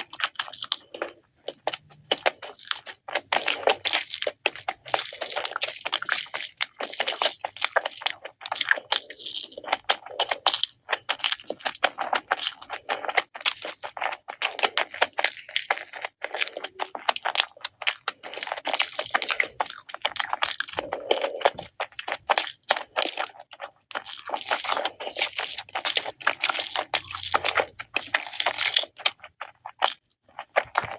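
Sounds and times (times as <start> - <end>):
crunching fried chicken: 0.0 - 30.9.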